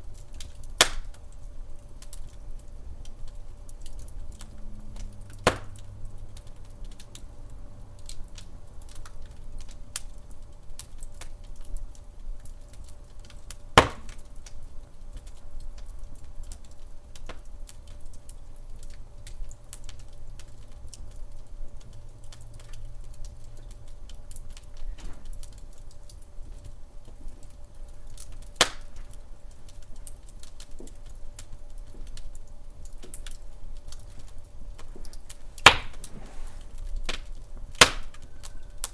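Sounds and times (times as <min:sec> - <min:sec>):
wood fire crackling: 0:00.0 - 0:38.9
loud fire pops: 0:00.1 - 0:07.3, 0:08.0 - 0:21.4, 0:22.3 - 0:38.9.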